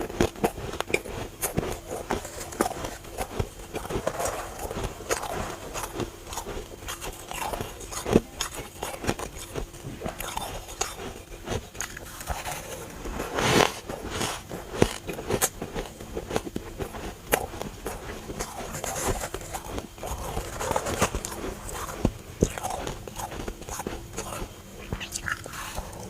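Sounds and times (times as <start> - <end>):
person chewing crunchy ice: 0.0 - 26.0.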